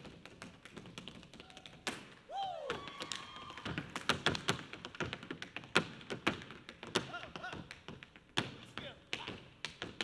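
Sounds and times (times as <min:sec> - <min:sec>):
tap shoes on wooden floor: 0:00.0 - 0:02.1, 0:02.7 - 0:10.0.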